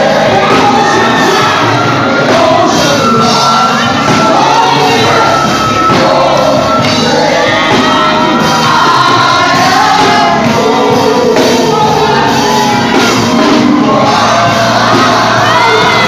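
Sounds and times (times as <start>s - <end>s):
congregation singing and shouting: 0.0s - 16.0s
live gospel worship music: 0.0s - 16.0s.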